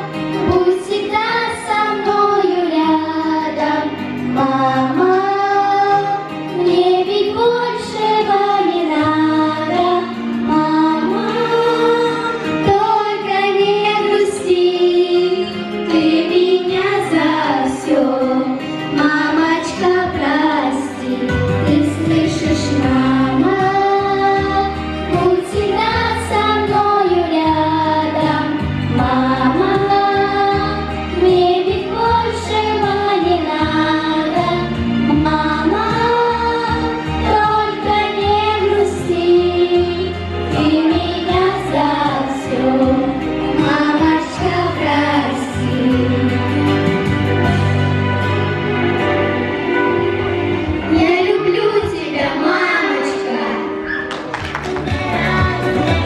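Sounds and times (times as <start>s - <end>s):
girls singing together: 0.0s - 46.8s, 50.8s - 53.9s, 54.8s - 56.0s
instrumental accompaniment with bass: 0.0s - 56.0s.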